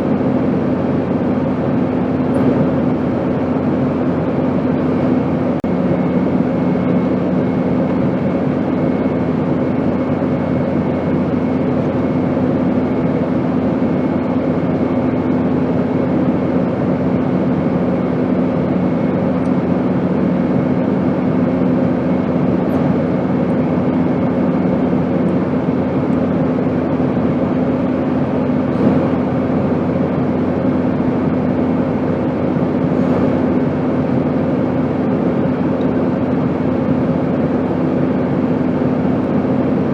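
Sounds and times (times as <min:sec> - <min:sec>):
airplane drone in flight: 0:00.0 - 0:39.9.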